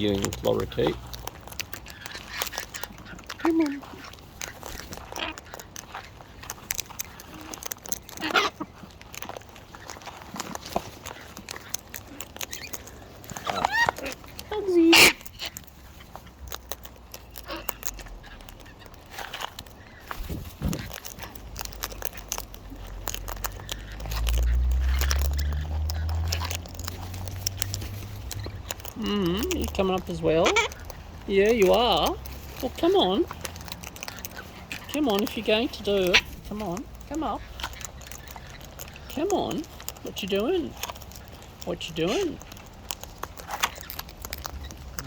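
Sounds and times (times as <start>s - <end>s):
birds cracking seeds: 0.0s - 45.0s.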